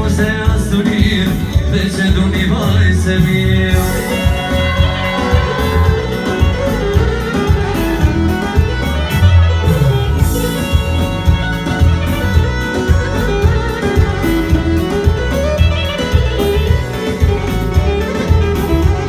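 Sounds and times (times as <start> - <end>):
band playing instrumental music: 0.0 - 19.0.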